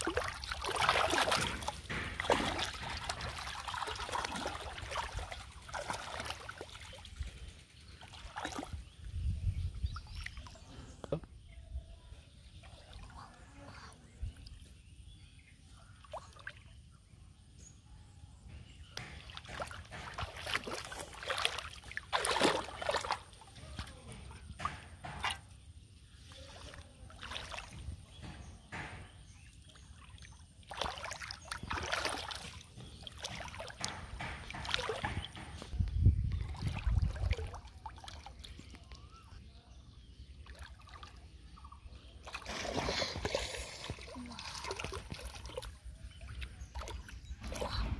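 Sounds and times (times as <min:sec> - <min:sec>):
muddy water sloshing: 0:00.0 - 0:11.2, 0:12.1 - 0:17.0, 0:18.8 - 0:47.9.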